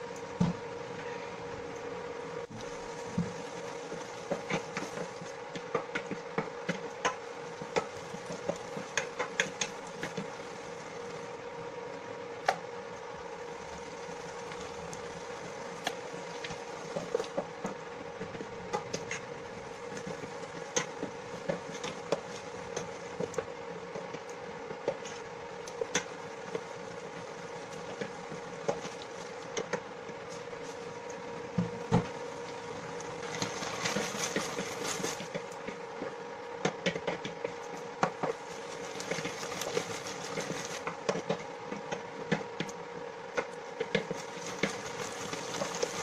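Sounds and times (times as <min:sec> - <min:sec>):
electric cooker hum: 0:00.0 - 0:46.0
wooden spoon stirring in pan: 0:02.1 - 0:46.0.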